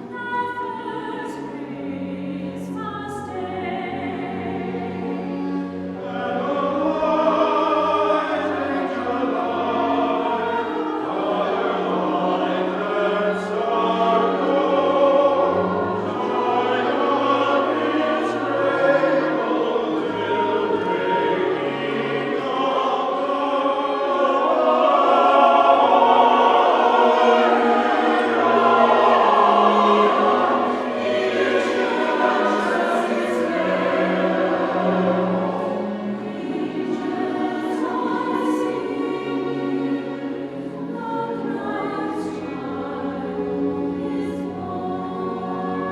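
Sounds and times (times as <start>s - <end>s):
choir singing sacred music: 0.0s - 45.9s.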